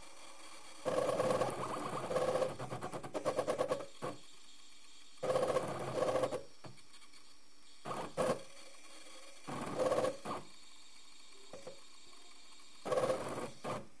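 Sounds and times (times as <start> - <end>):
faint high-pitched hum: 0.0 - 14.0.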